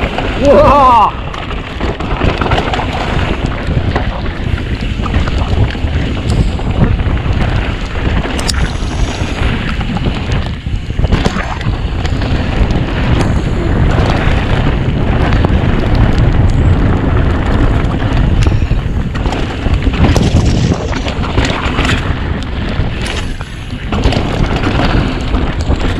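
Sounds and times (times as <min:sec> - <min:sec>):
bike knocks and rattles: 0:00.0 - 0:25.9
tyres on trail: 0:00.0 - 0:25.9
wind buffeting microphone: 0:00.0 - 0:25.9.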